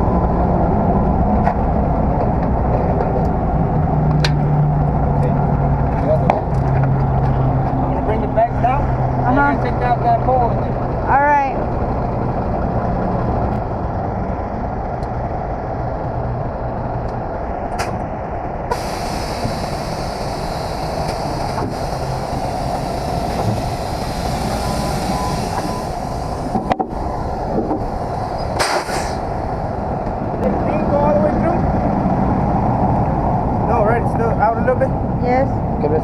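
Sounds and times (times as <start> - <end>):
truck diesel engine running: 0.0 - 35.8.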